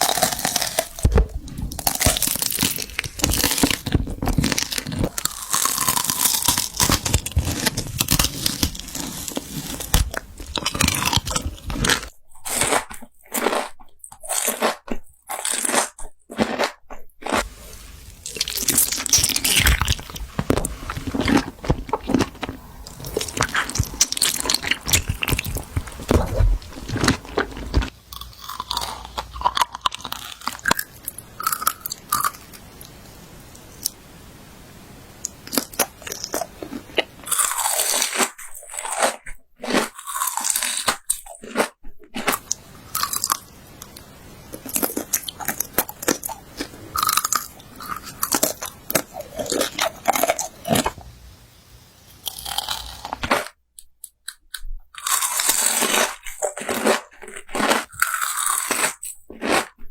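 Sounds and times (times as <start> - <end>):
crunching of food being chewed: 0.0 - 34.0, 35.2 - 51.2, 52.1 - 59.9.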